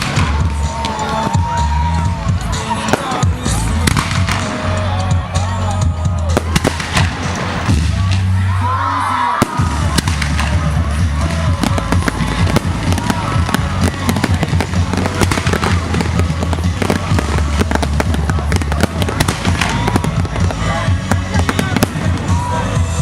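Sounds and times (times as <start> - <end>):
fireworks crackling and popping: 0.0 - 8.6, 9.3 - 23.0
fireworks whistling: 0.0 - 23.0
music with low bass: 0.0 - 23.0.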